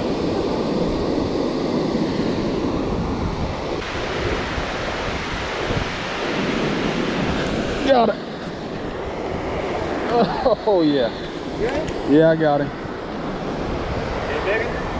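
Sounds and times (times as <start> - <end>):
river water flowing: 0.0 - 14.9
wind on microphone: 0.0 - 14.9.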